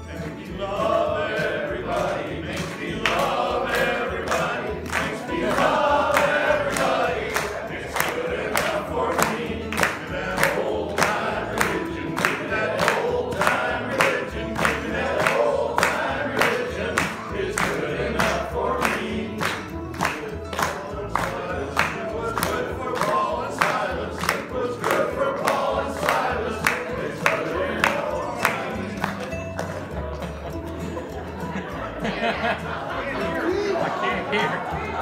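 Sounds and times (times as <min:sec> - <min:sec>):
men singing in unison: 0:00.0 - 0:29.6
musical accompaniment with bass: 0:00.0 - 0:35.0.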